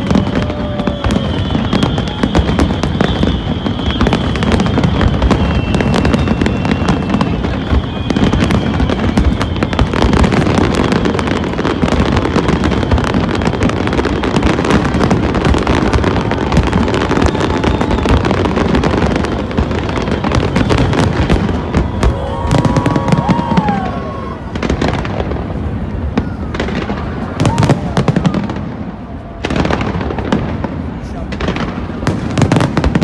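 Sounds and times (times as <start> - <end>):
fireworks crackling and bursting: 0.0 - 33.0
whistling fireworks: 0.0 - 33.0.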